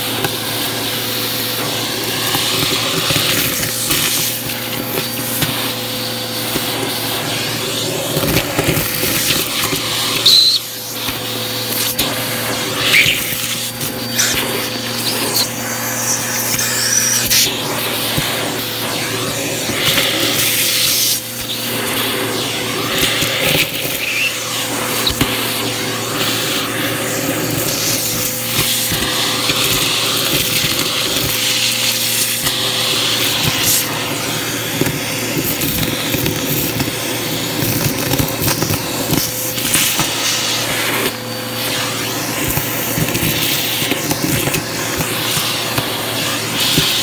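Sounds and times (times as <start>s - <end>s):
vacuum cleaner motor hum: 0.0s - 47.0s.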